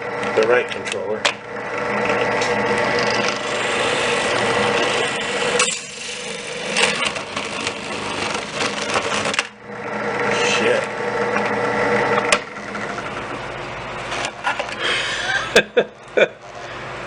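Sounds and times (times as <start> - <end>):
drill bit grinding plastic: 0.0 - 14.4
drill press motor hum: 0.0 - 17.0.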